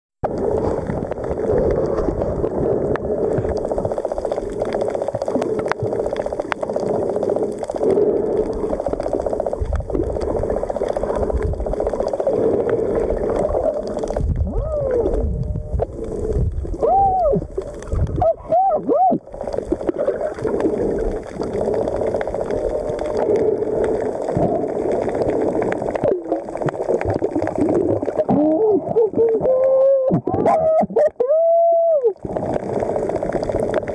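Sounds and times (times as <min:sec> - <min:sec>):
underwater bubbles gurgling: 0:00.2 - 0:33.9.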